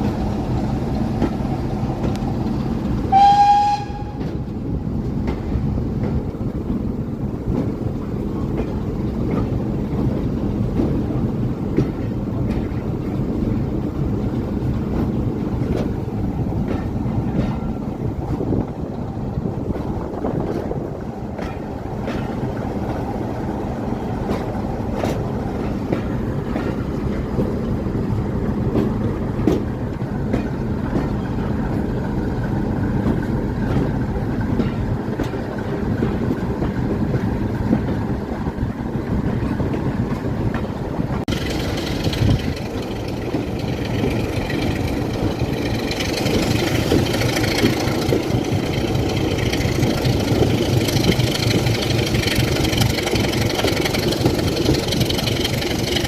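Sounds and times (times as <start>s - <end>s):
train rumbling on track: 0.0s - 56.0s.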